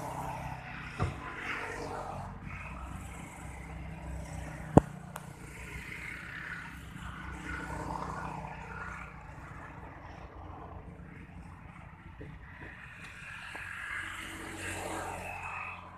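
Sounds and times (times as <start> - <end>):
low engine hum: 0.0 - 15.9.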